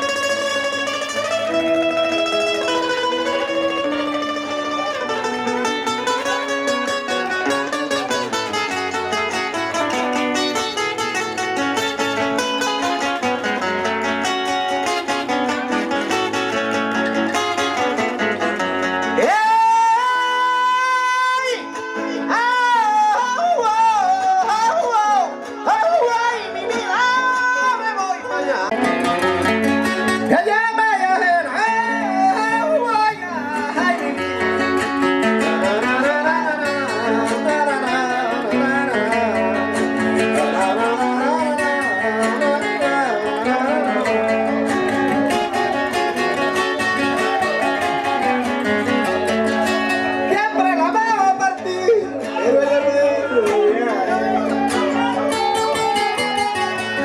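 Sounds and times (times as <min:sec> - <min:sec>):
strummed and plucked strings: 0:00.0 - 0:57.0.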